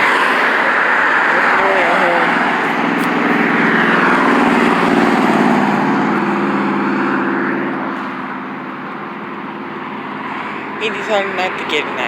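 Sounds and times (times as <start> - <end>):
tyres hissing on wet road: 0.0 - 11.6
bus engine droning: 0.0 - 12.0.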